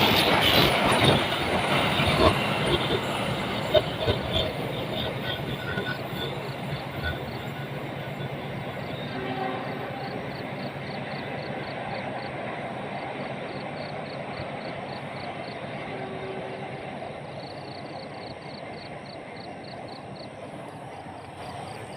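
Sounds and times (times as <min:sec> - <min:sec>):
train rushing past: 0:00.0 - 0:21.9.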